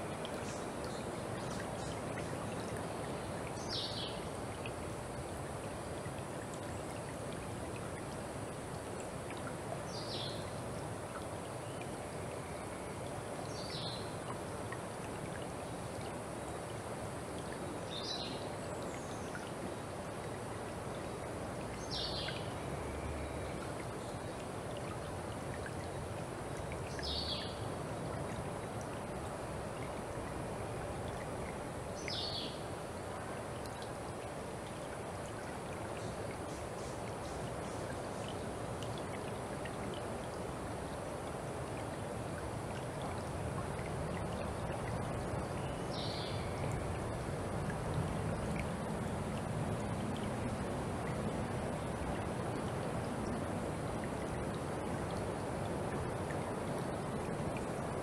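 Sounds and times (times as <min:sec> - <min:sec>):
creek flowing: 0:00.0 - 0:58.0.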